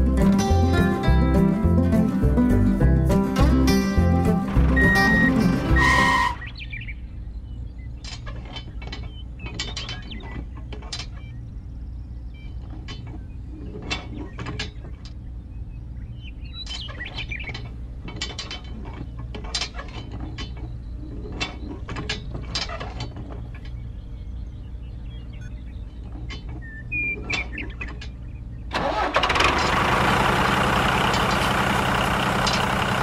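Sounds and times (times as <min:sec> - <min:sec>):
steady low background hum: 0:00.0 - 0:33.0.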